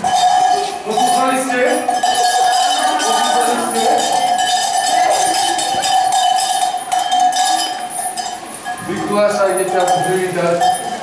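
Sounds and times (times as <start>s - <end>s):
cowbells clanging: 0.0s - 11.0s.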